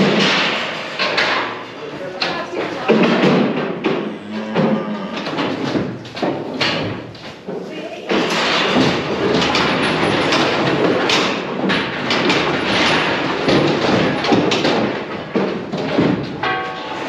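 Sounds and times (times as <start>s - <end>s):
metal cattle gates clanking: 0.0s - 17.0s.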